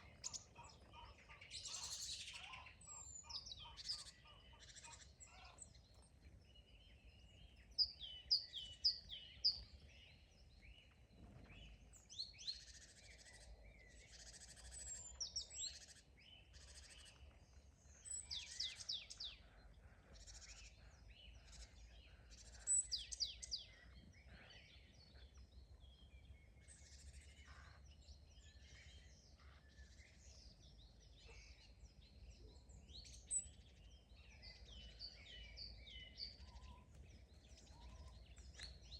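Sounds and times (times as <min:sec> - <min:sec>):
songbirds singing and calling: 0:00.0 - 0:38.9.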